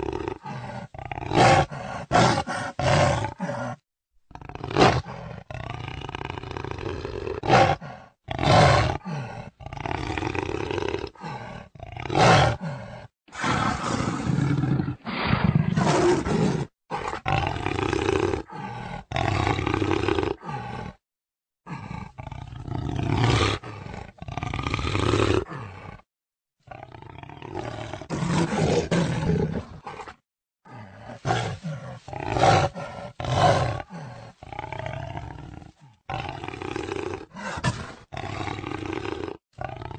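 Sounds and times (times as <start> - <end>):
jaguar roaring and growling: 0.0 - 21.0, 21.7 - 26.1, 26.7 - 39.9.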